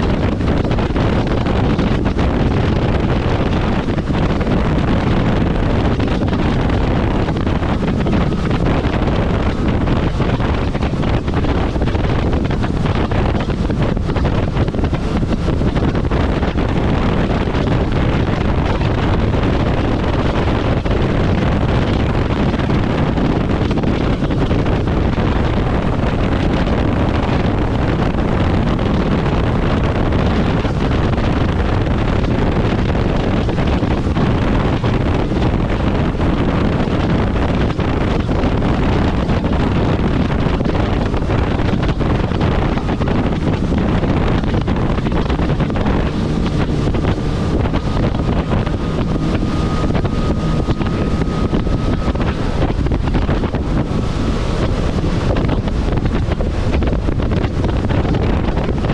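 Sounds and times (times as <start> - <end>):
jet ski engine: 0.0 - 58.9
water noise: 0.0 - 58.9
wind rushing over microphone: 0.0 - 58.9.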